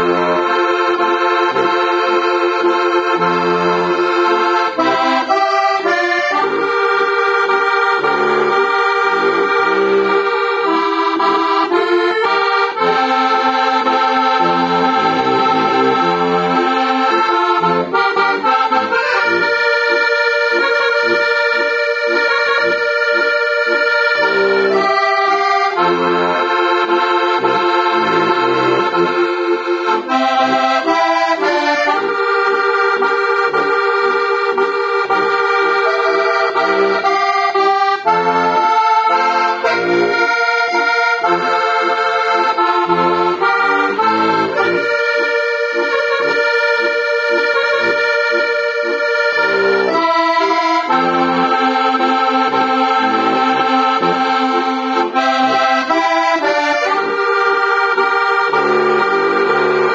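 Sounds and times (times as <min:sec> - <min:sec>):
button accordion folk tune: 0:00.0 - 0:59.9.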